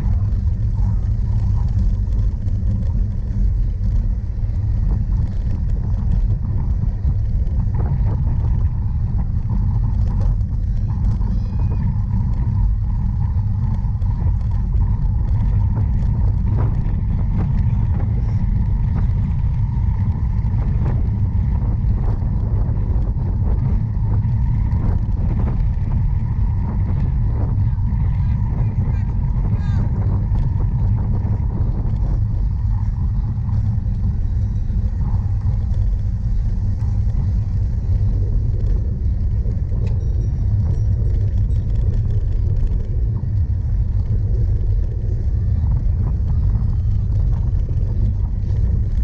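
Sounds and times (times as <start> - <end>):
bike riding over rough ground: 0.0 - 49.0
wind on camera: 0.0 - 49.0.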